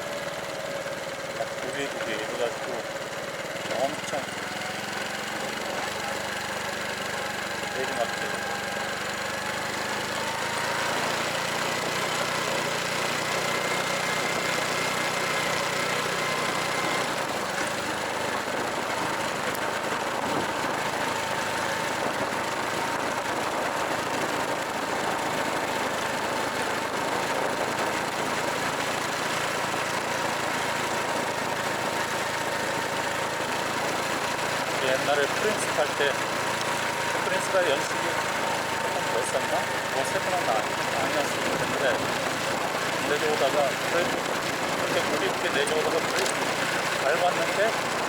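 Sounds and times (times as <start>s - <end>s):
motorcycle engine running: 0.0s - 48.0s
wind and road noise: 0.0s - 48.0s.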